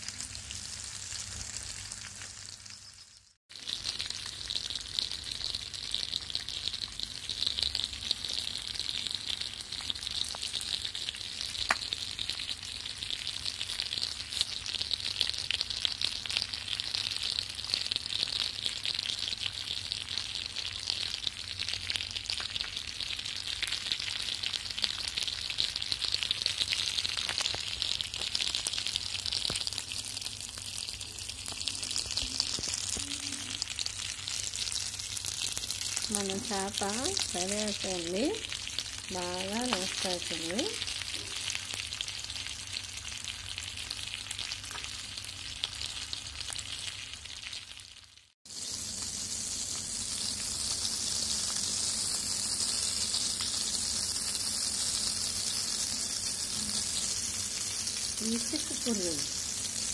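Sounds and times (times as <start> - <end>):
fish sizzling in oil: 0.0 - 59.9.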